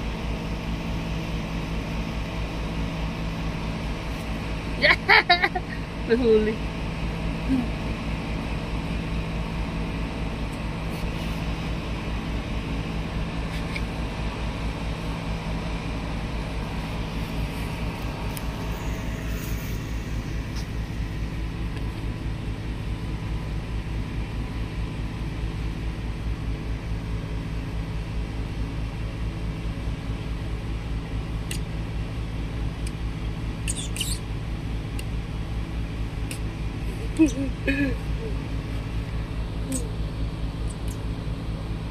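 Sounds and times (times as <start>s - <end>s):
mechanical hum and rumble: 0.0s - 41.9s.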